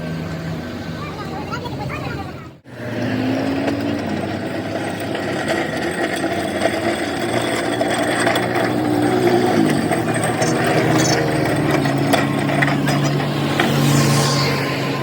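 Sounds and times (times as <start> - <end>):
machine motor running: 2.7 - 15.0.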